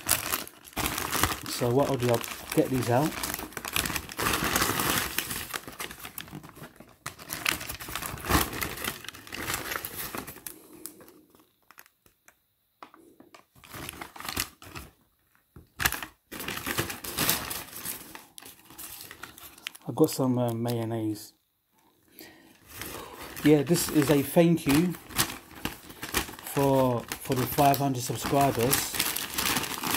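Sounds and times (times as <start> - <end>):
paper bags rustling and crinkling: 0.0 - 11.9, 15.8 - 21.2, 22.6 - 29.9.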